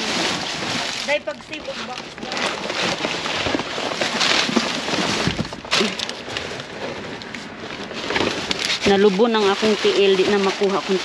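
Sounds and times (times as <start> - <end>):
garbage crackling and rustling: 0.0 - 11.0.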